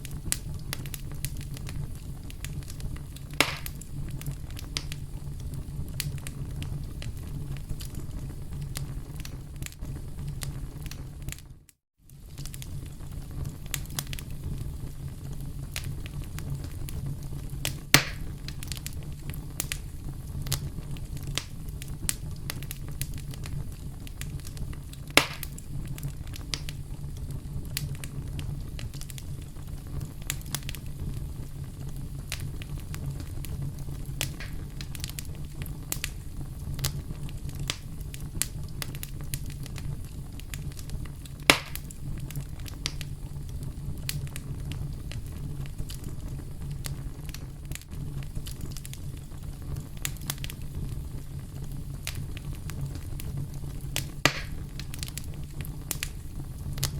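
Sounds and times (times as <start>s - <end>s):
campfire crackling: 0.0s - 56.9s
loud fire pops: 0.0s - 56.9s.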